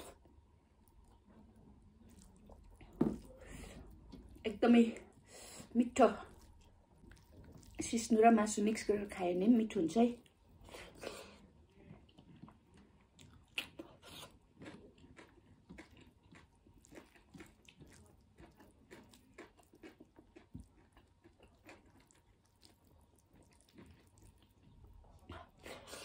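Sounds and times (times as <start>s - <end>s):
person chewing food: 0.0s - 8.4s, 10.2s - 26.0s.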